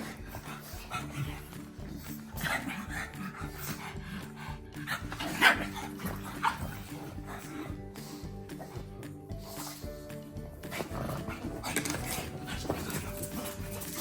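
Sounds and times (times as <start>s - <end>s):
background music: 0.0s - 14.0s
dogs barking and yipping: 0.0s - 14.0s.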